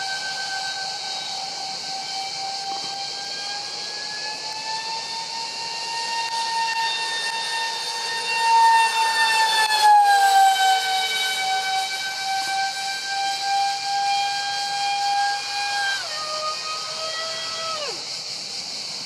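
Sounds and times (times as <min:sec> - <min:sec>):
electric ducted fans screeching: 0:00.0 - 0:19.0.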